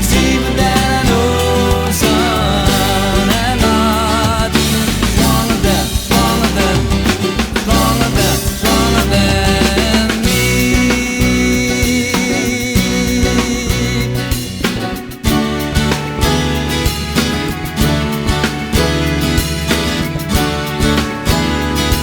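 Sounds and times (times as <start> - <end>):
bass: 0.0 - 22.0
drum kit: 0.0 - 22.0
wavering lead melody: 0.0 - 22.0.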